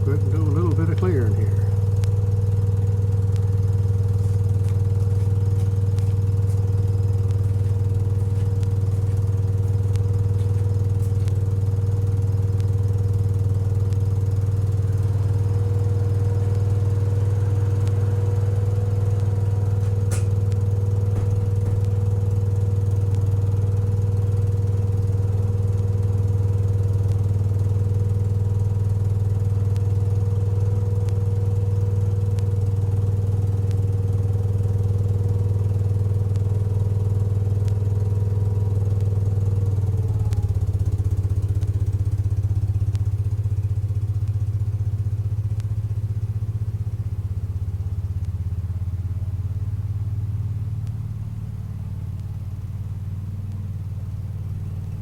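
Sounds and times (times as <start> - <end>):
garden tractor engine running: 0.0 - 48.7.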